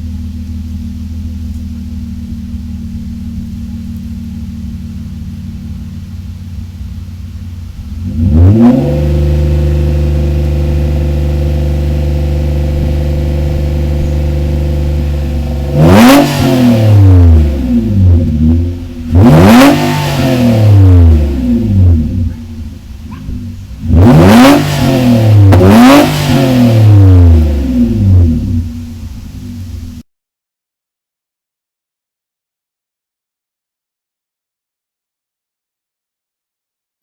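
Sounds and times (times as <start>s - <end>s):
engine revving through exhaust: 0.0s - 30.0s.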